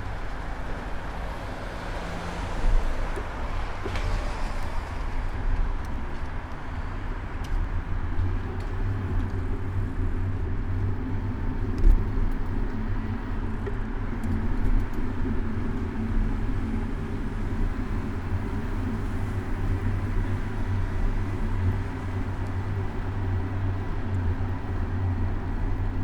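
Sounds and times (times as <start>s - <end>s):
car engines in traffic: 0.0s - 26.0s.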